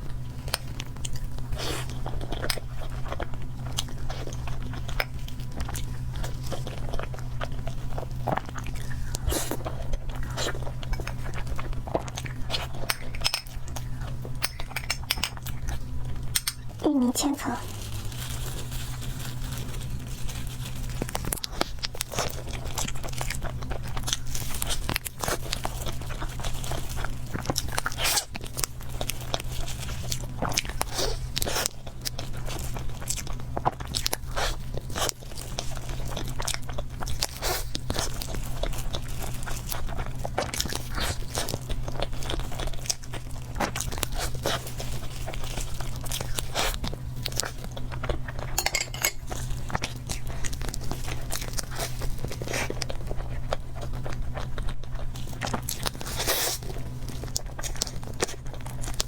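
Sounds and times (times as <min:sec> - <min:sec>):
crunchy chewing: 0:00.0 - 0:59.0
steady low hum: 0:00.0 - 0:59.0.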